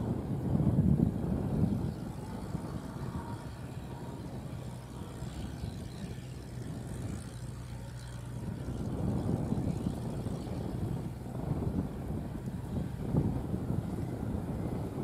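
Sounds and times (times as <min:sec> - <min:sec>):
rotary tiller working soil: 0:00.0 - 0:15.0
tractor diesel engine running: 0:00.0 - 0:15.0.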